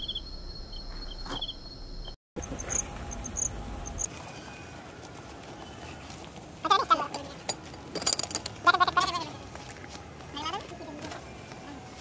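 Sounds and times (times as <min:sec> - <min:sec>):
crickets and insects chirping: 0:00.0 - 0:12.0.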